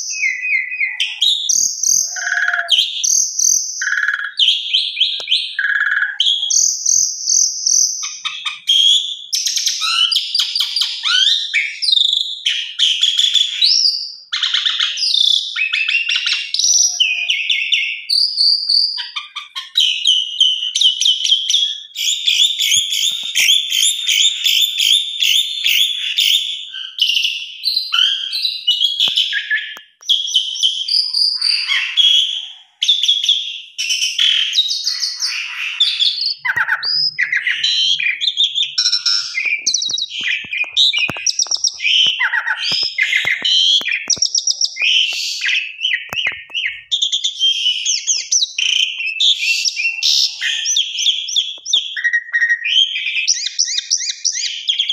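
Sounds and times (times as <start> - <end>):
starling singing trills and whistles: 0.0 - 54.9.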